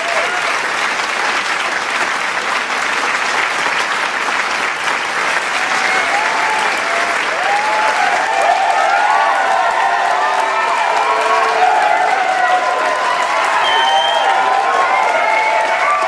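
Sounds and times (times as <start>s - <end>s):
crowd cheering: 0.0s - 16.0s
crowd clapping: 0.0s - 16.0s.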